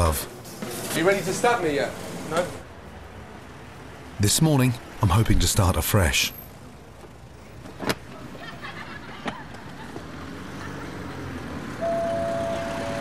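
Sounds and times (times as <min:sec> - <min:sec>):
passing street traffic: 0:00.0 - 0:13.0.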